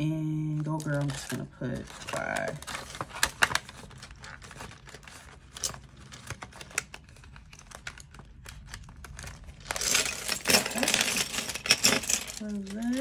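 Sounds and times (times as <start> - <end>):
vinyl envelope crinkling: 0.3 - 11.1, 12.3 - 13.0
paper bills rustling: 0.5 - 13.0.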